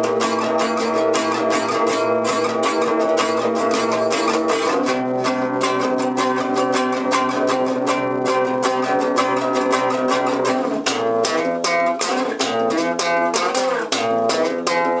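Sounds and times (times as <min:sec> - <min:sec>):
guitar picked chords: 0:00.0 - 0:15.0.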